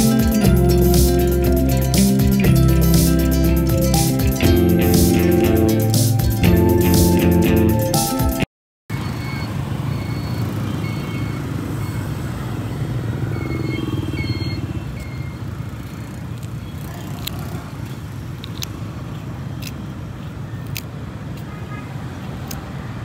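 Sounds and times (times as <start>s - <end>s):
road traffic rumble: 0.0s - 8.2s, 8.9s - 23.0s.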